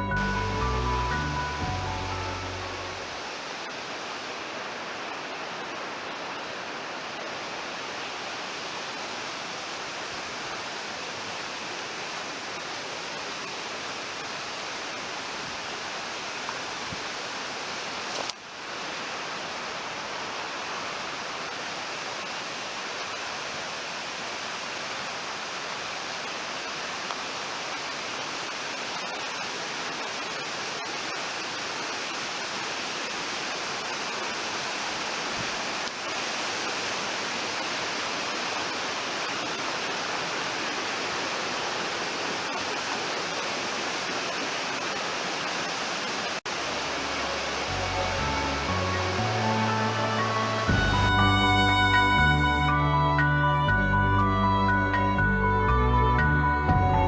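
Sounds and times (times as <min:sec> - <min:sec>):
river rushing over rocks: 0:00.0 - 0:51.4.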